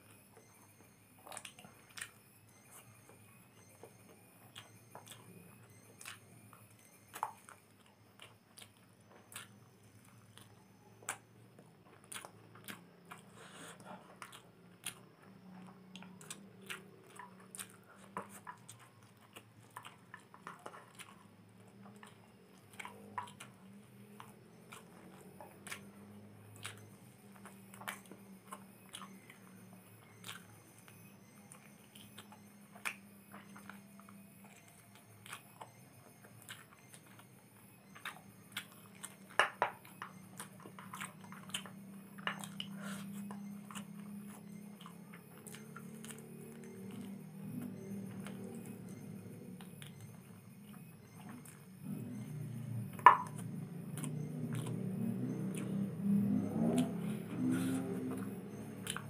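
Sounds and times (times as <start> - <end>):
faint low hum: 0.0 - 59.0
person chewing noodles: 0.0 - 59.0.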